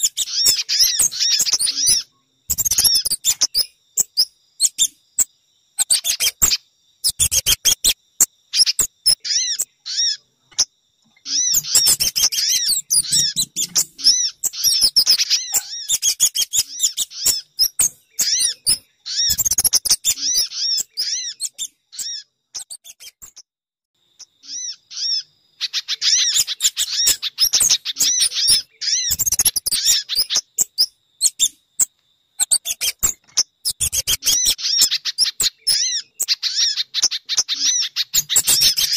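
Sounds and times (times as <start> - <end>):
rapid high-pitched bird chirps: 0.0 - 23.5, 24.2 - 38.9.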